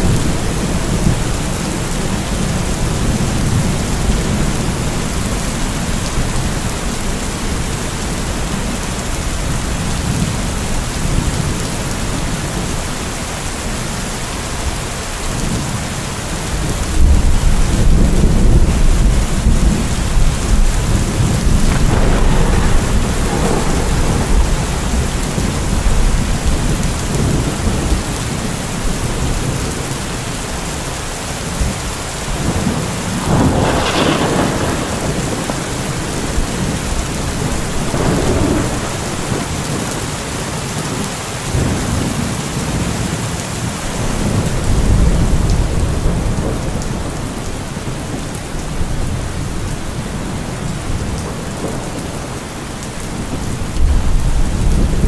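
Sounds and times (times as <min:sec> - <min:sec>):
thunder rumbling: 0:00.0 - 0:12.8, 0:16.4 - 0:30.6, 0:31.4 - 0:43.1, 0:43.7 - 0:52.4, 0:53.0 - 0:55.0
heavy rain: 0:00.0 - 0:55.0.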